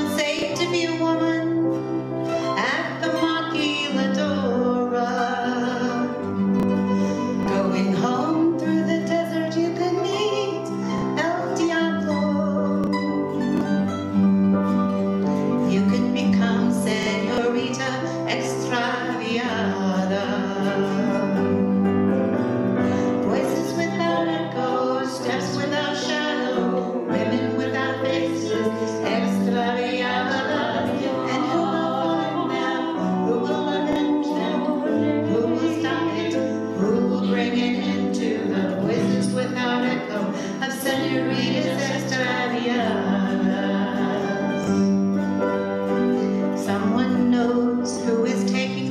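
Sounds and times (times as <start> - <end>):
acoustic guitar: 0.0 - 48.9
grand piano: 0.0 - 48.9
mandolin: 0.0 - 48.9.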